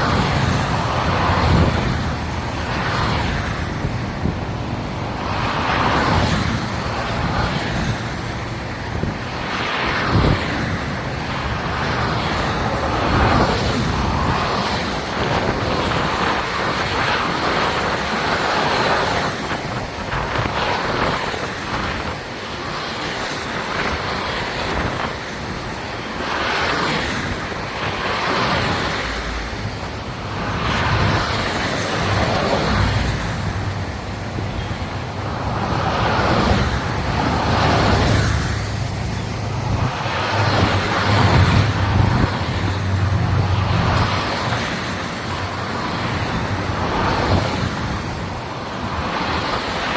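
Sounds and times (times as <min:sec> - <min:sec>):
highway vehicles passing: 0:00.0 - 0:49.9.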